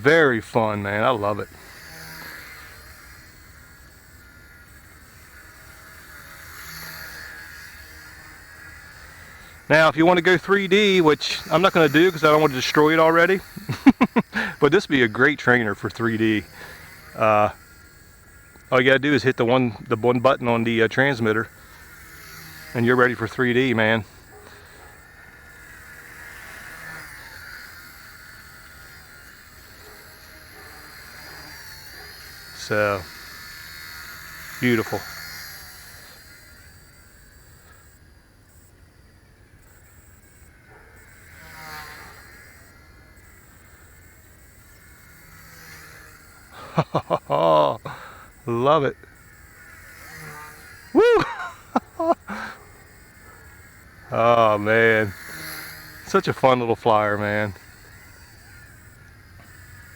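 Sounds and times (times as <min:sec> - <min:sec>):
model helicopter rotor whine: 0:00.0 - 0:59.9.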